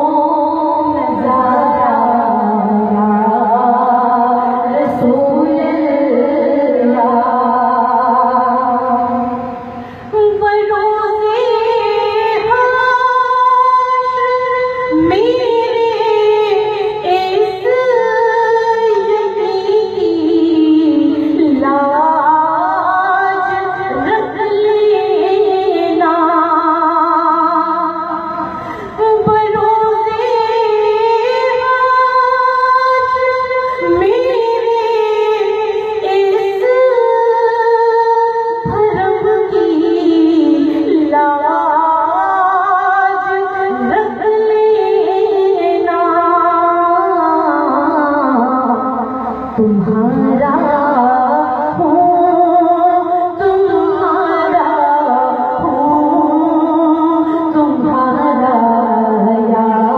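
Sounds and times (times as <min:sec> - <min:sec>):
woman singing devotional song: 0:00.0 - 0:59.9.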